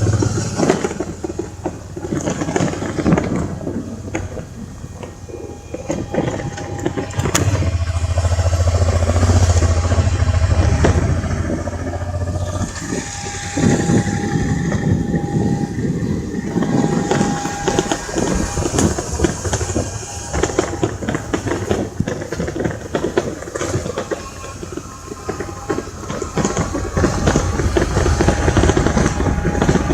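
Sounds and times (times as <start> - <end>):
road noise with knocks and rattles: 0.0 - 29.9
vehicle engine humming: 0.0 - 29.9.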